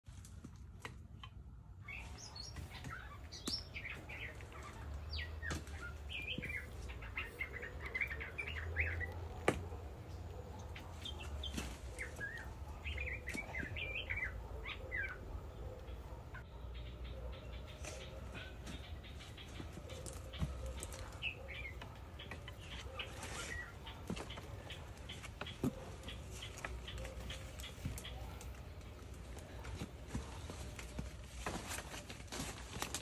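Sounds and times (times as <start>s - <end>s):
bird chirps and calls: 1.8s - 28.8s.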